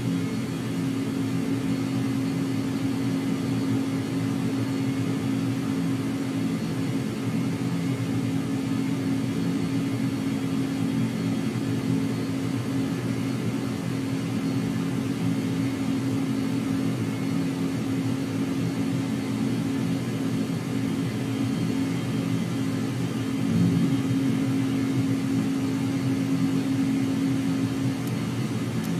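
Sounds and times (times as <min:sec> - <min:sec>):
steady machine hum: 0:00.0 - 0:28.9.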